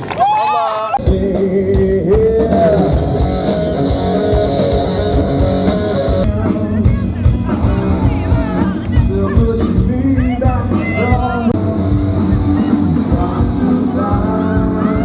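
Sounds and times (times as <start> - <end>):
rock band guitar: 1.0 - 15.0
steady drum beat: 1.0 - 15.0.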